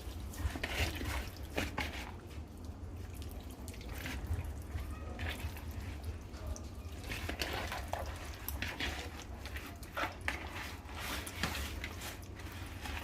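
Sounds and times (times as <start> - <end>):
wet dripping and squelching: 0.0 - 13.0.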